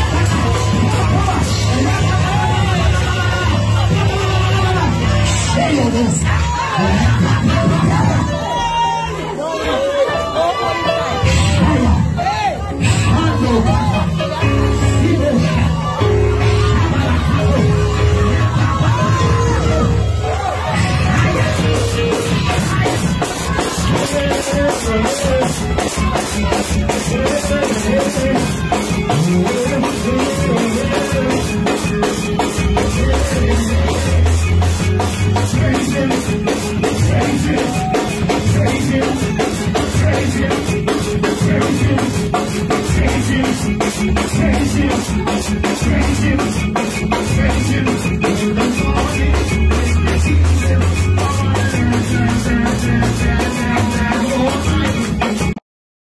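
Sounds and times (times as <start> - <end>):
drum kit fast beat: 0.0 - 55.6
live band playing upbeat groove: 0.0 - 55.6.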